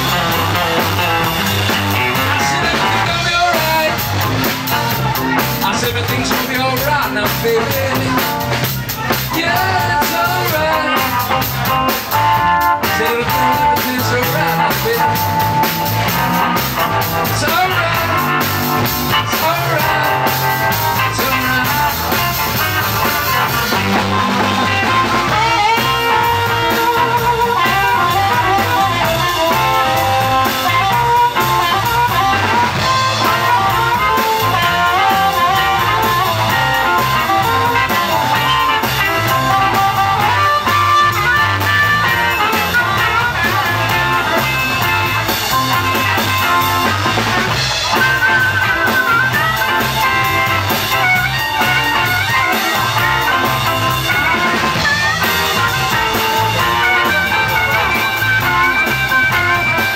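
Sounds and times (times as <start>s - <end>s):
blues band playing: 0.0s - 59.9s
blues harmonica: 0.0s - 59.9s
drum kit beat: 0.0s - 59.9s
electric guitars: 0.0s - 59.9s.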